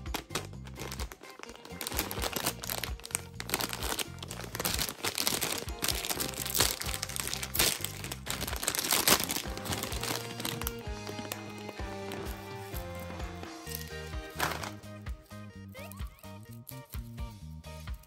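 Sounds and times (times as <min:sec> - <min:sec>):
plastic bag crinkling: 0:00.0 - 0:14.9
light background music: 0:00.0 - 0:18.0.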